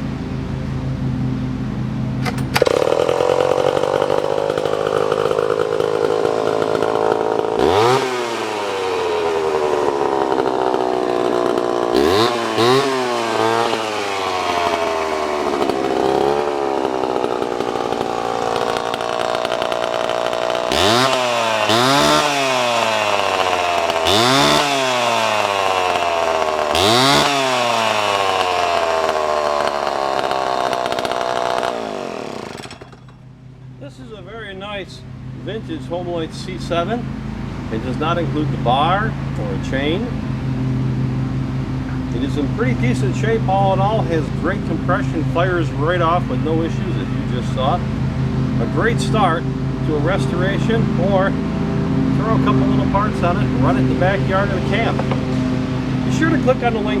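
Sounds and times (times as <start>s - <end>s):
chainsaw revving: 1.8s - 57.0s.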